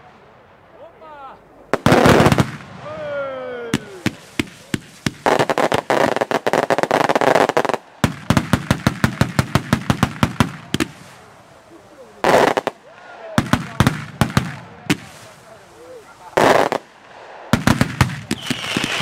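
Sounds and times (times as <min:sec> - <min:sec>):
crackling firecracker barrage: 0:00.0 - 0:19.0
firecracker bangs: 0:01.8 - 0:11.3, 0:12.2 - 0:15.6, 0:16.2 - 0:19.0.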